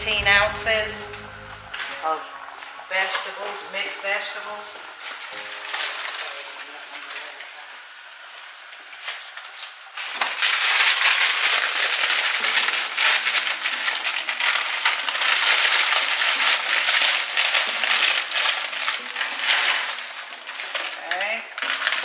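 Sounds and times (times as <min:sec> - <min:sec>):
frozen vegetables sizzling in pan: 0:01.2 - 0:22.0.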